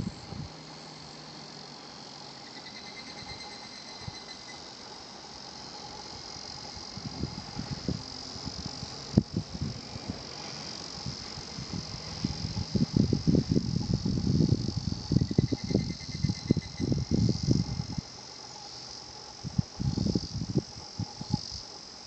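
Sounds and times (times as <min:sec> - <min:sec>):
cicadas calling: 0:00.0 - 0:22.0.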